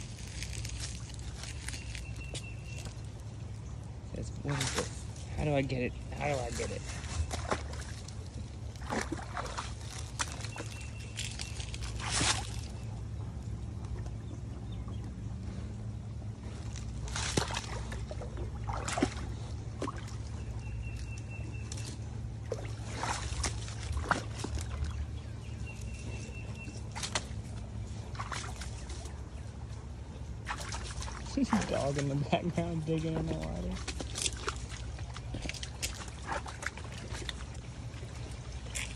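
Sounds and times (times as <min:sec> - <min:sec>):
paws splashing in water: 0:00.0 - 0:38.9
stream trickling: 0:00.0 - 0:38.9.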